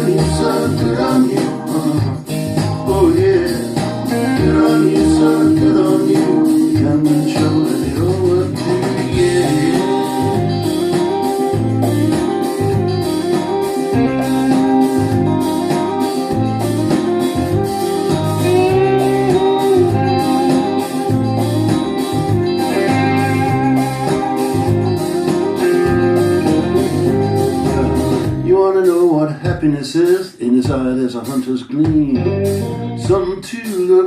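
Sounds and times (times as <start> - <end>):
rock guitar music over loudspeakers: 0.0 - 34.0.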